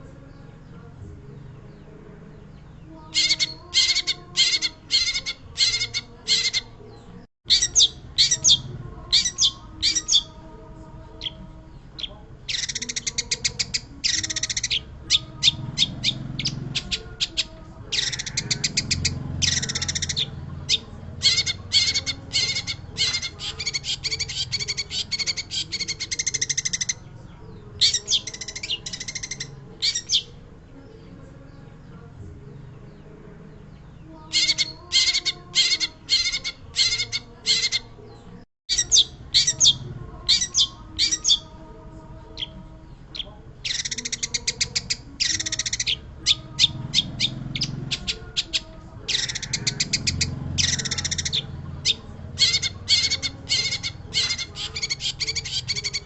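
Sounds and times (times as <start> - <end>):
bird harsh chattering song: 2.4 - 10.4, 11.1 - 30.9, 33.7 - 41.6, 42.2 - 56.0.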